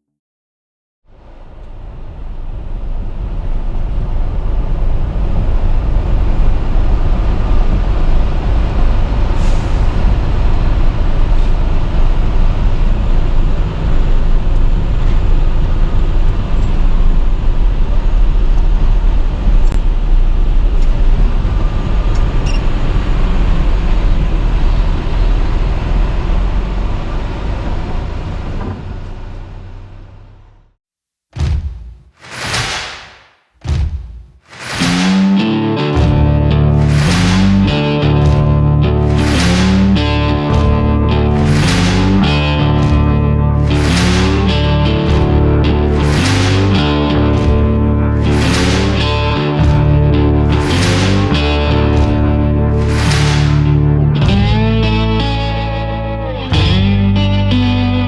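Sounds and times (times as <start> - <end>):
truck engine and road rumble: 1.2 - 30.7, 36.1 - 58.0.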